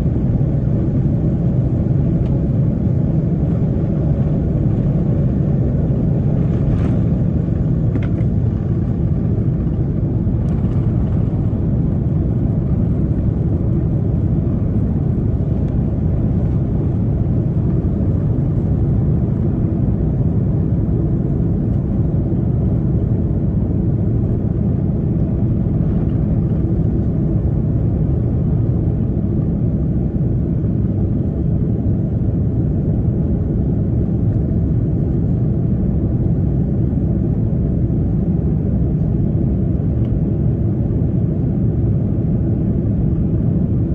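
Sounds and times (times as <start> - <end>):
jet engines rumbling: 0.0 - 43.9.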